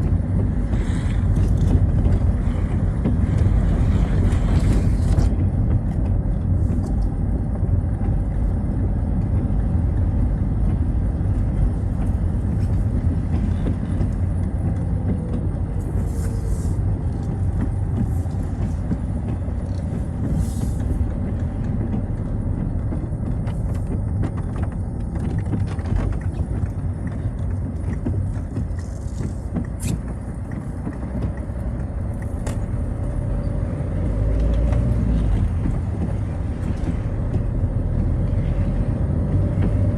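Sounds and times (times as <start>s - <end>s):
car engine rumble: 0.0s - 39.9s
tyres on wet road: 0.0s - 39.9s.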